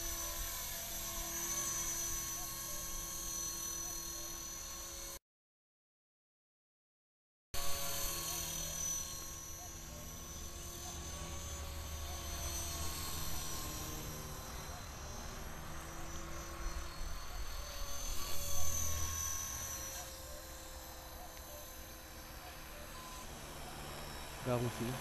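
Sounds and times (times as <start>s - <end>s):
rotor blades humming: 0.0s - 5.1s, 7.6s - 25.0s
rc helicopter motor whine: 0.0s - 5.2s, 7.6s - 25.0s.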